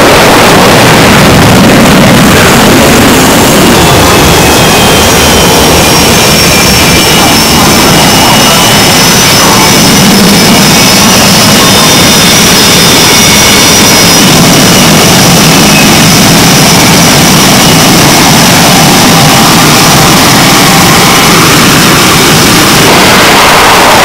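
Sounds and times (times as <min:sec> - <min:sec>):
high whining tones: 0:00.0 - 0:24.0
jet engines running: 0:00.0 - 0:24.0.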